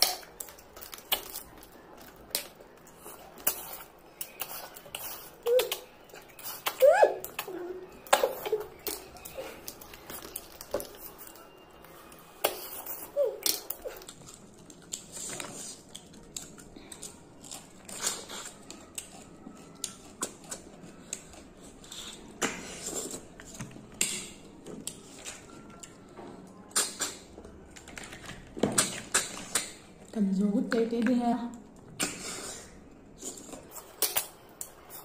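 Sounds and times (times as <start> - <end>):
chewing and mouth noises: 0.0 - 30.1.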